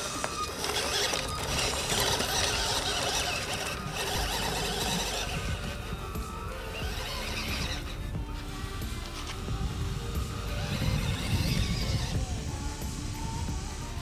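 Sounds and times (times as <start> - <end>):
toy truck motor whining: 0.0 - 14.0.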